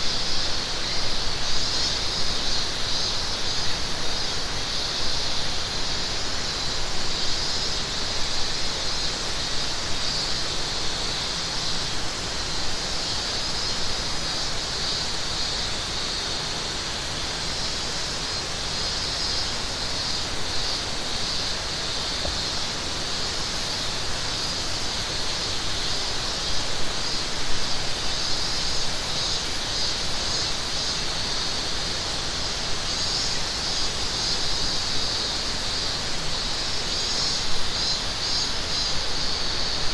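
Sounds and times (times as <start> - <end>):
cicadas shrilling: 0.0 - 39.9.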